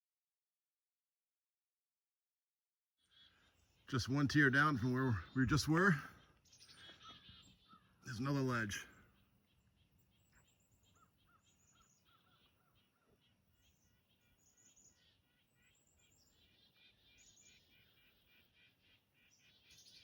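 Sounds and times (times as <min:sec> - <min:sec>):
songbirds chirping: 0:03.0 - 0:20.0.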